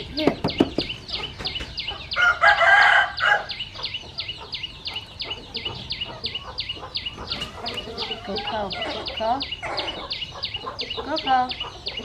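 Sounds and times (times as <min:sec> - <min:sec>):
baby bird peeping: 0:00.0 - 0:12.0.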